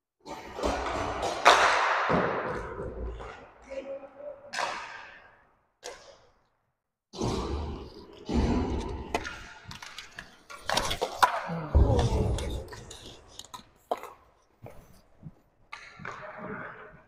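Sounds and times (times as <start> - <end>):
sticks and puck clacking: 0.2 - 6.6, 7.2 - 17.0.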